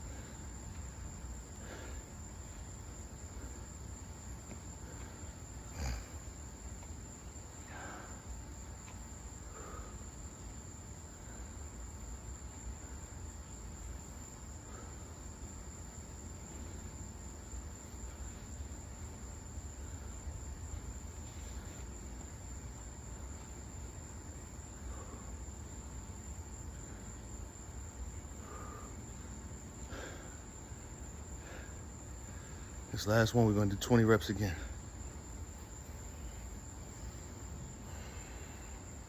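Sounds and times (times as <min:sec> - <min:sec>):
cricket trill: 0:00.0 - 0:39.0.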